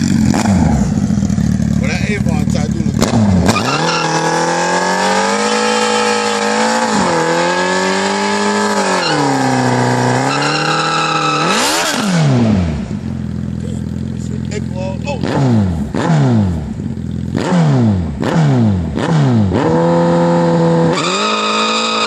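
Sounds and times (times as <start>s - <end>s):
motorcycle engine revving high: 0.0s - 22.0s.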